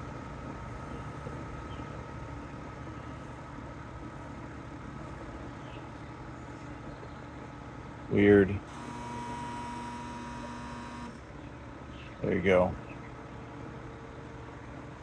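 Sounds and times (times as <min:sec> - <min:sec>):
air conditioner low hum: 0:00.0 - 0:15.0.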